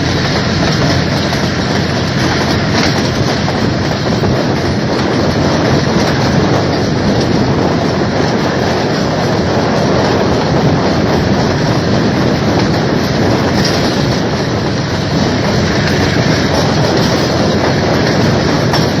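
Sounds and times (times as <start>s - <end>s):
train wheels on track: 0.0s - 19.0s.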